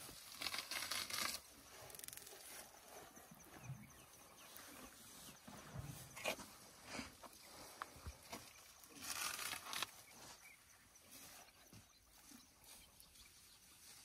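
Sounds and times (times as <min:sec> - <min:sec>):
leaves and branches rustling: 0:00.0 - 0:02.8, 0:04.4 - 0:14.0.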